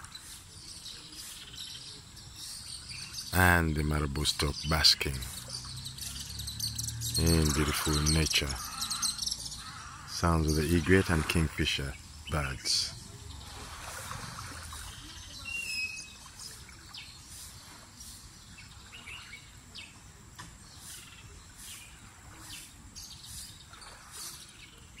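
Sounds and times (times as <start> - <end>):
birds chirping: 0.0 - 25.0
faint outdoor background noise: 0.0 - 25.0.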